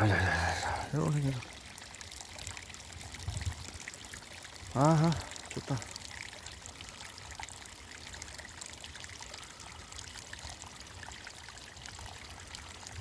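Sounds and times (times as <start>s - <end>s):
stream babbling: 0.0s - 13.0s.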